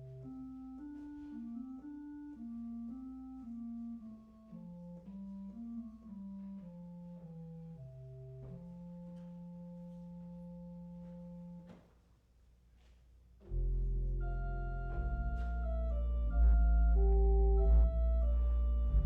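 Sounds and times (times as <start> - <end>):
organ playing chords: 0.0 - 11.7, 13.5 - 19.0.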